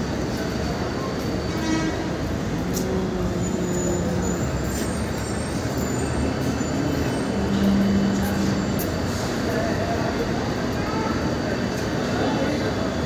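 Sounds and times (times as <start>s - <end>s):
rumble of motor traffic: 0.0s - 13.0s.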